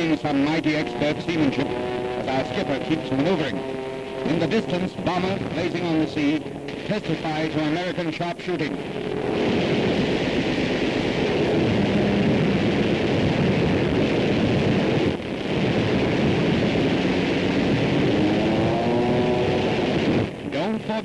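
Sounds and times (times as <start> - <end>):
aircraft engine drone: 0.0 - 21.0
faint droning tone: 0.0 - 21.0.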